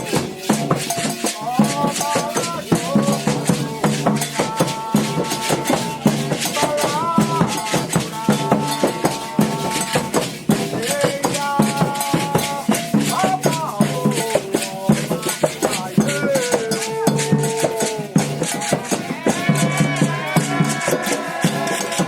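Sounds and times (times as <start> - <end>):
hand drumming: 0.0 - 22.0
rattling shaker: 0.0 - 22.0
voices singing a chant: 0.0 - 22.0.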